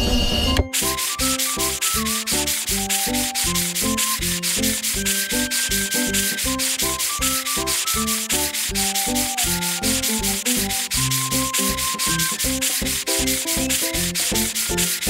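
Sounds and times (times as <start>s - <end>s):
rapid brush scrubbing: 0.7s - 15.0s.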